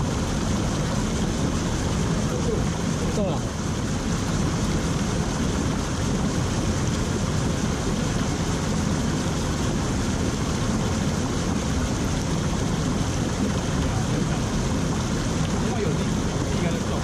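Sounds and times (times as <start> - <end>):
stream spilling over rocks: 0.0 - 17.0.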